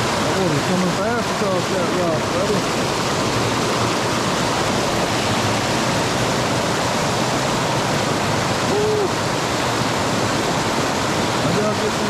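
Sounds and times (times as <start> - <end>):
stream rushing over rock: 0.0 - 12.0.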